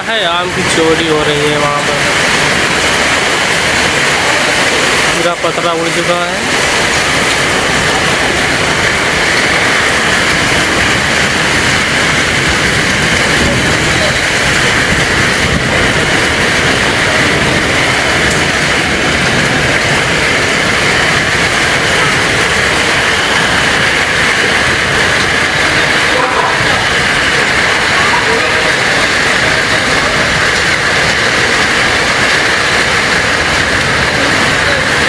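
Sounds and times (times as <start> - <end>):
strong wind blowing: 0.0 - 35.0.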